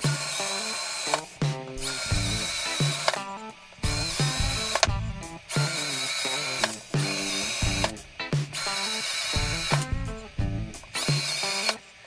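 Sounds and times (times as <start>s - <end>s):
cordless drill whining: 0.0s - 12.0s
drill bit cutting wood: 0.0s - 12.0s.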